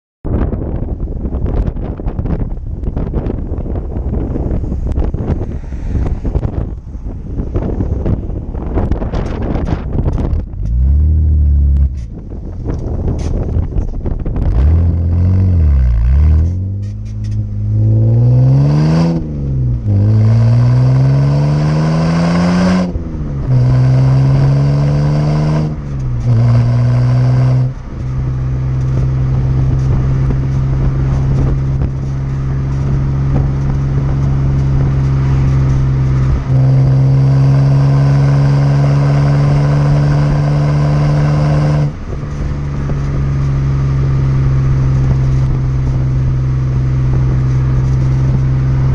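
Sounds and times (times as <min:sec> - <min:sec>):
car engine accelerating through gears: 0:01.2 - 0:48.9.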